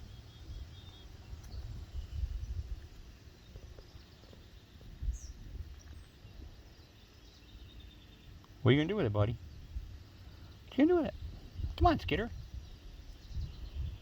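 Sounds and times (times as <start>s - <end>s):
faint bird chirps: 0.0s - 14.0s
high falling bird chirp: 0.0s - 14.0s.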